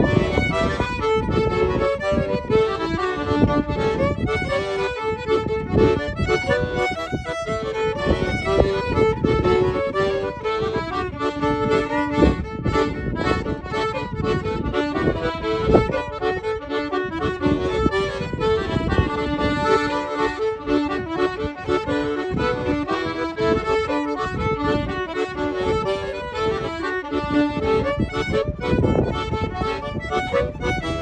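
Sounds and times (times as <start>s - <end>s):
accordion playing a jig: 0.0s - 31.0s
fiddle playing a jig: 0.0s - 31.0s.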